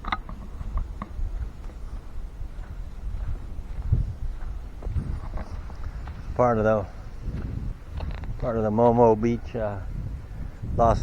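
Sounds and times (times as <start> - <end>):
wind rumble on microphone: 0.0 - 11.0
footsteps on sand: 0.4 - 10.7.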